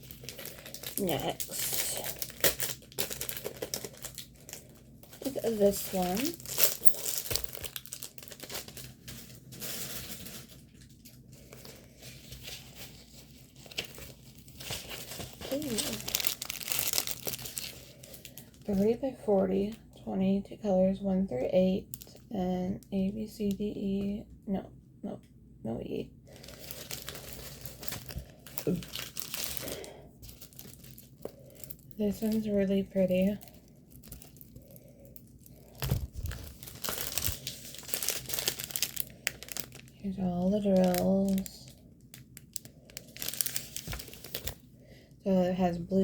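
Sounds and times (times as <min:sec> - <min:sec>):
plastic packaging crinkling: 0:00.0 - 0:19.0, 0:21.8 - 0:22.2, 0:26.3 - 0:44.7.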